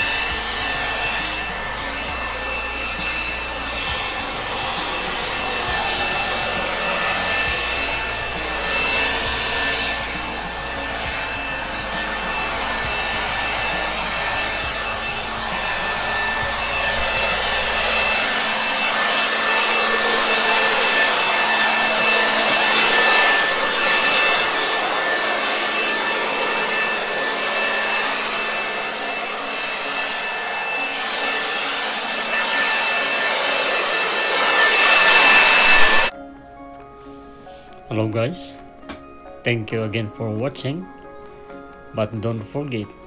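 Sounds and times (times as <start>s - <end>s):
leaf blower running: 0.0s - 36.2s.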